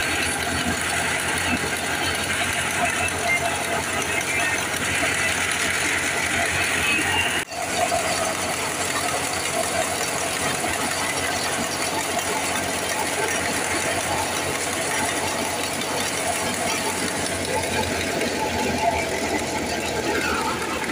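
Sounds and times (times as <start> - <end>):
thresher mechanical clatter: 0.0 - 20.9.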